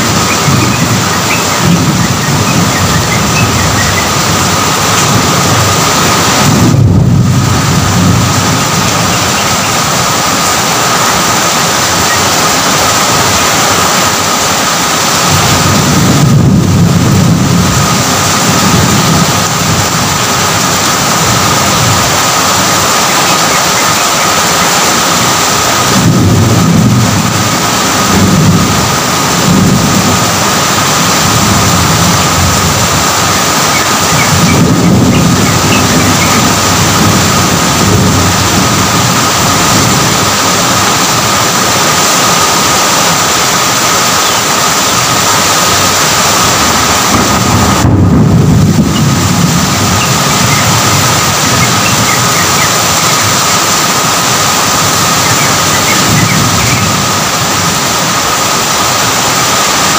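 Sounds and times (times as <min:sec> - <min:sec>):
low rolling thunder: 0:00.0 - 0:23.2, 0:24.8 - 0:42.3, 0:45.1 - 0:58.6
heavy rain: 0:00.0 - 0:59.9.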